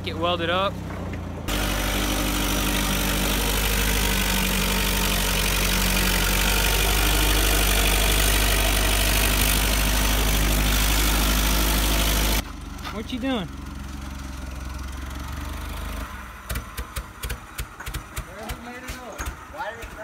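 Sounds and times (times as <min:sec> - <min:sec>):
forklift engine droning: 0:00.0 - 0:17.6.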